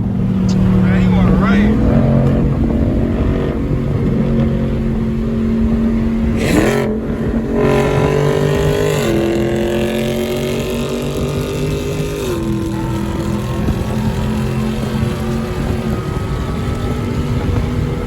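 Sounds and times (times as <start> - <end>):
car engine revving and shifting: 0.0 - 18.0.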